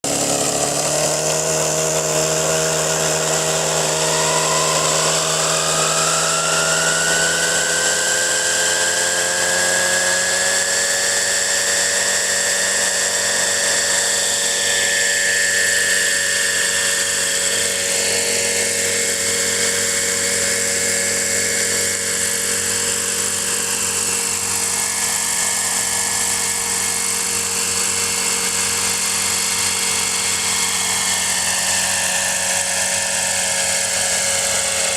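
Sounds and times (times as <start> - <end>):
model helicopter engine running: 0.0 - 34.9.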